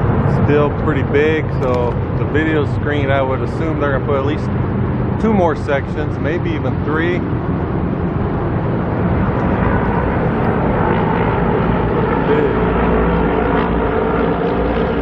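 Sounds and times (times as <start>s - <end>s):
low engine hum: 0.0s - 15.0s
road noise: 0.0s - 15.0s.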